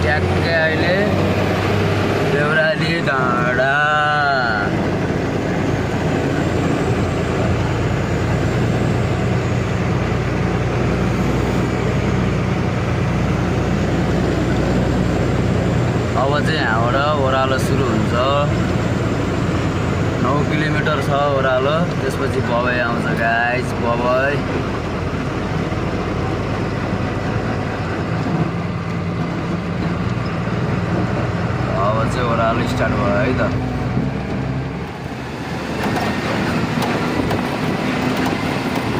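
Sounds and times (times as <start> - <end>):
road noise: 0.0 - 38.9
truck diesel engine running: 0.0 - 38.9.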